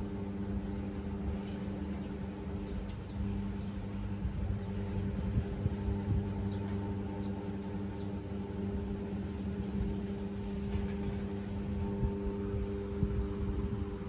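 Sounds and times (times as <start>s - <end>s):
low uneven rumble: 0.0s - 14.0s
mechanical hum with tones: 0.0s - 14.0s.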